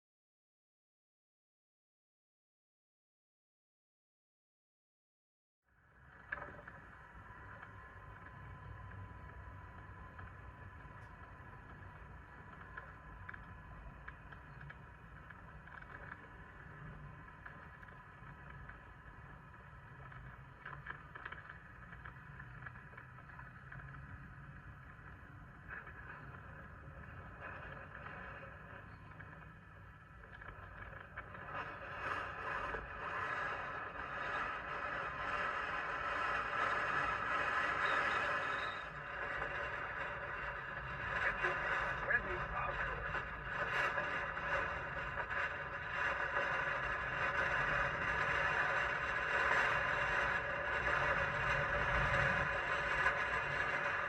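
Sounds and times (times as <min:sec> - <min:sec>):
wind rumbling on microphone: 0:06.0 - 0:54.0.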